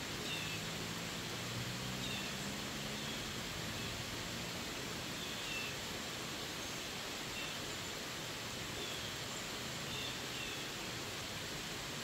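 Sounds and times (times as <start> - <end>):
heavy rain on leaves: 0.0 - 12.0.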